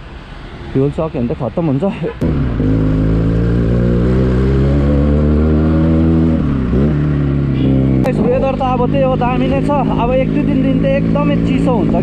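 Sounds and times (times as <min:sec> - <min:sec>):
motorcycle engine accelerating: 0:02.2 - 0:12.0.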